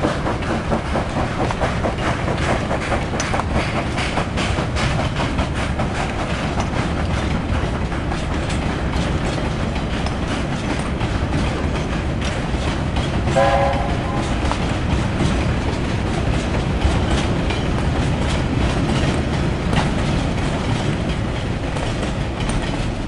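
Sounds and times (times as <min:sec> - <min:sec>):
train wheels clattering: 0:00.0 - 0:23.0.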